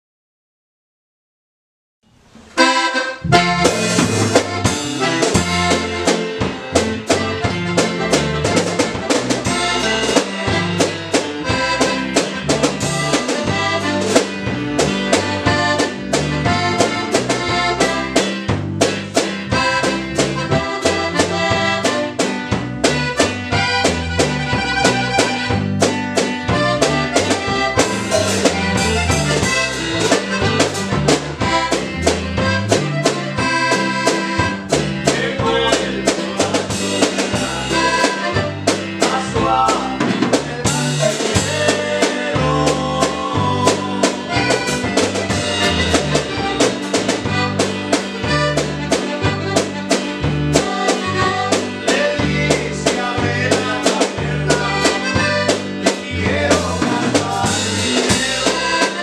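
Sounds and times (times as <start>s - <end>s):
acoustic guitar: 2.1s - 59.0s
electric bass: 2.1s - 59.0s
button accordion melody: 2.5s - 59.0s
drum kit beat: 2.6s - 59.0s.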